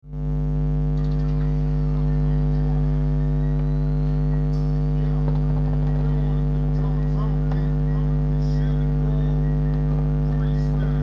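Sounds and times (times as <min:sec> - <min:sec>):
music with deep bass drone: 0:00.0 - 0:11.0.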